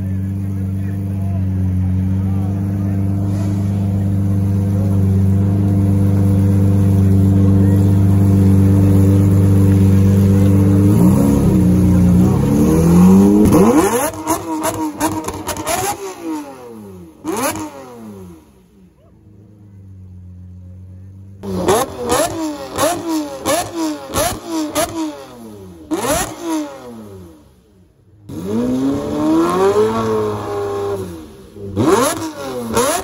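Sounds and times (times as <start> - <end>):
sports car engine revving: 0.0 - 33.0.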